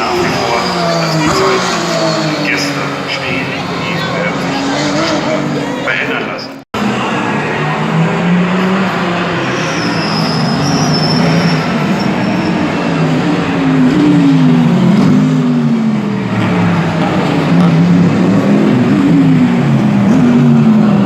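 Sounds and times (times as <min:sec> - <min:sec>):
race car engines at speed: 0:00.0 - 0:21.0.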